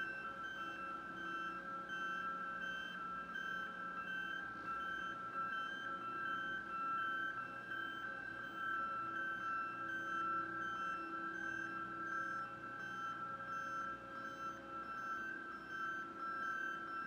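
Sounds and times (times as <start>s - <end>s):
crane motion alarm beeping: 0.0s - 17.0s.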